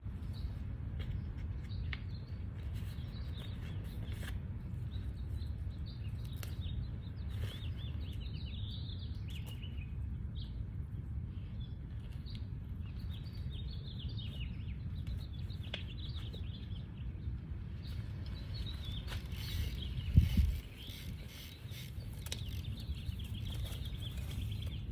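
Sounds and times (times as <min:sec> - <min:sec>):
small birds chirping: 0:00.1 - 0:24.9.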